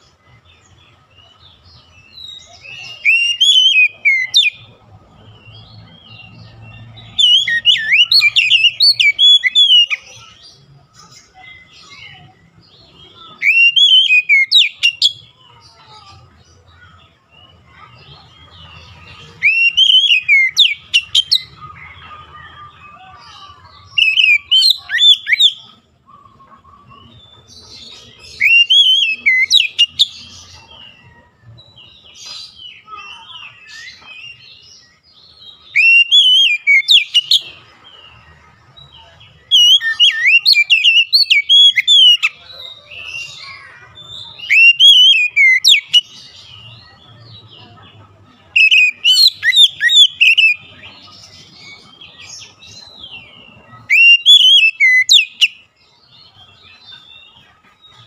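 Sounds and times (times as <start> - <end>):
bird singing whistled notes: 0.6 - 4.7, 5.9 - 10.4, 11.1 - 15.3, 19.2 - 31.2, 31.8 - 38.2, 38.8 - 47.1, 48.4 - 58.0.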